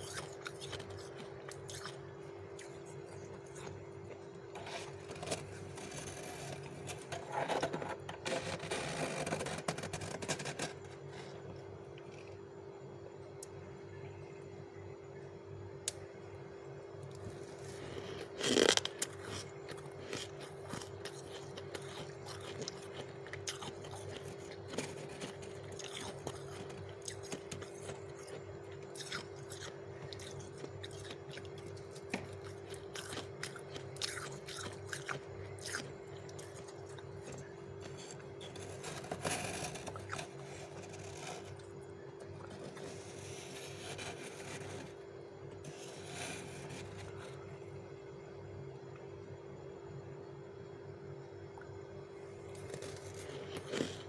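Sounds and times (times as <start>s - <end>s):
frost being chewed: 0.0s - 12.5s, 17.1s - 47.6s, 51.5s - 54.0s
low steady hum: 0.0s - 54.0s.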